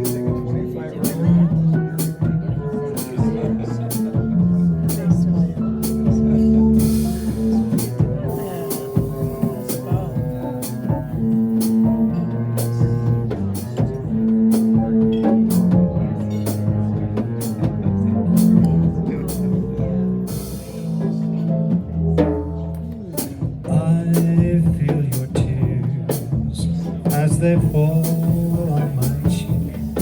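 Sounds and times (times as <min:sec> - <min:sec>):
drum kit: 0:00.0 - 0:30.0
jazz combo playing bossa nova: 0:00.0 - 0:30.0
upright bass: 0:00.0 - 0:30.0.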